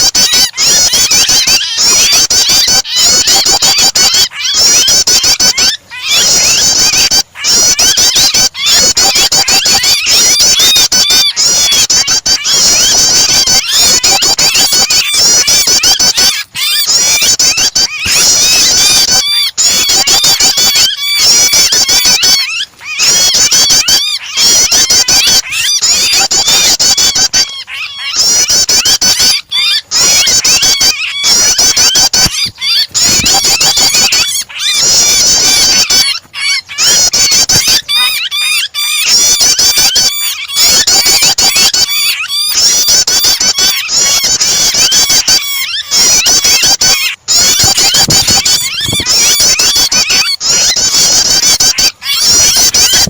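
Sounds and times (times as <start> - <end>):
bird chirping rapidly: 0.0 - 53.0
bird distress calls: 0.0 - 53.0.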